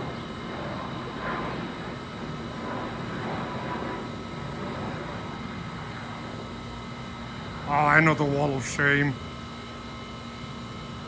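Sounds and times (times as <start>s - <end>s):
jet engines overhead: 0.0s - 11.0s.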